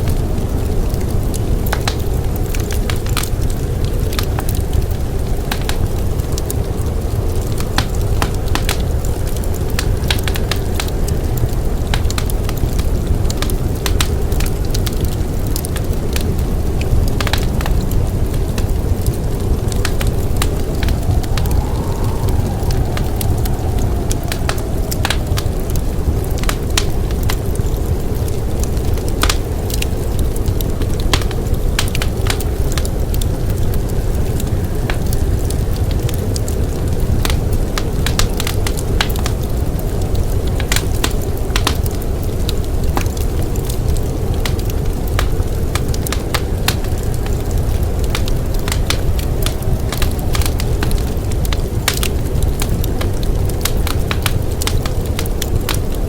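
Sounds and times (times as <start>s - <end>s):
blizzard wind rumble: 0.0s - 56.0s
wood fire crackling and popping: 0.0s - 56.0s.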